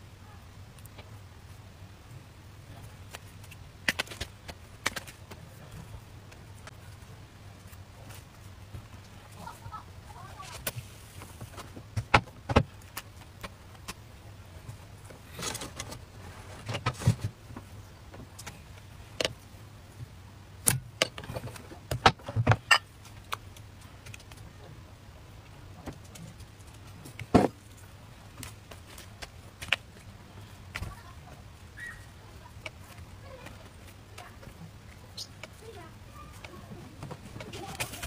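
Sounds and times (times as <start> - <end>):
low background hum: 0.0 - 38.0.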